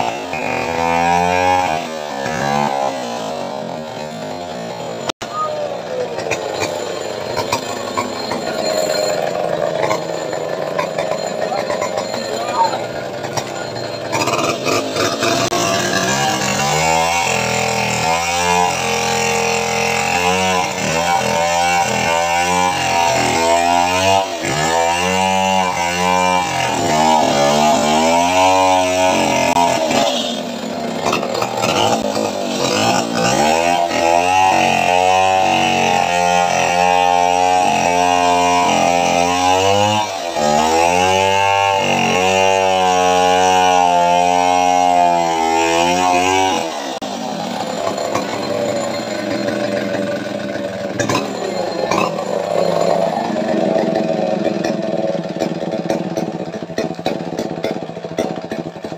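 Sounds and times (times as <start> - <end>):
small engine revving: 0.0 - 58.9.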